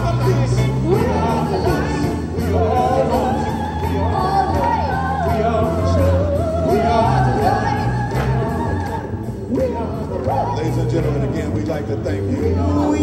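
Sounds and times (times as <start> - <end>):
band with steady drum beat: 0.0 - 13.0.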